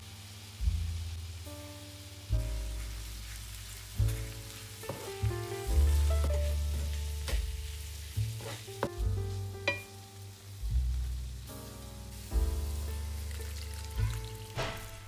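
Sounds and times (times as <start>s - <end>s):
food sizzling in a frying pan: 0.0s - 15.0s
background music with deep bass: 2.3s - 15.0s.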